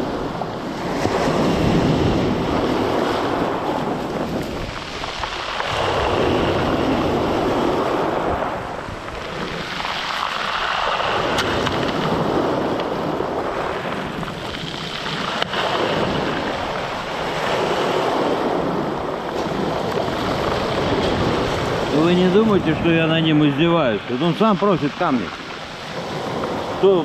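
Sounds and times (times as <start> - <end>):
waves washing over stony beach: 0.0 - 27.0.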